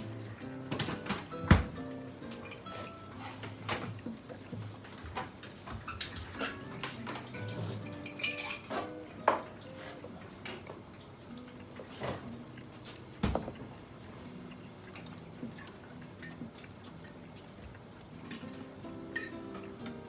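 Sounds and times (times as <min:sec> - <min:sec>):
faint background music: 0:00.0 - 0:20.0
dishes and cutlery clinking: 0:00.7 - 0:10.8, 0:11.4 - 0:13.8, 0:14.6 - 0:20.0.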